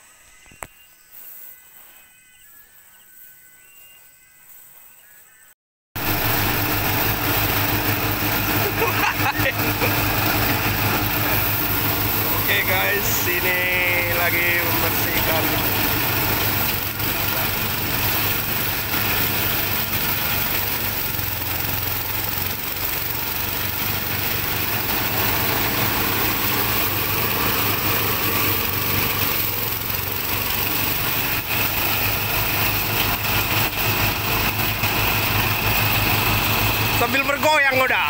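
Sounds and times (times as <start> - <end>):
small petrol engine running: 6.0 - 38.0
thresher drum spinning: 6.0 - 38.0.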